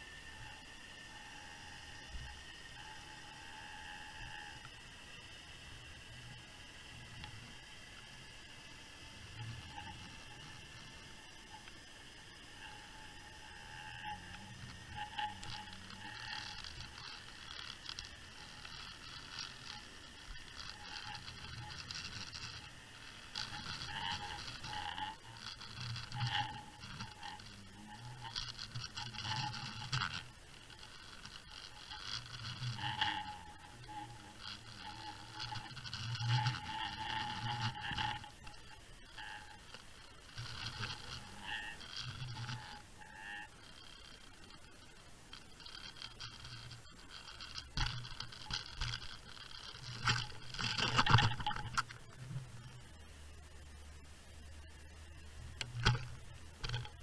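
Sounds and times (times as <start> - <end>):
low steady hum: 0.0 - 57.0
scraping and rubbing on seabed: 0.0 - 57.0
scattered clicks: 9.4 - 53.0, 54.7 - 57.0.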